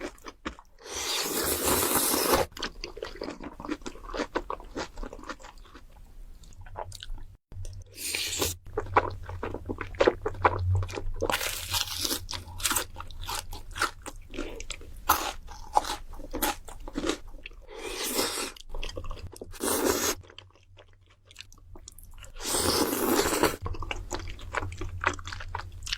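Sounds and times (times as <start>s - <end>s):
crunching food: 0.0s - 25.9s
wet chewing: 0.0s - 25.9s.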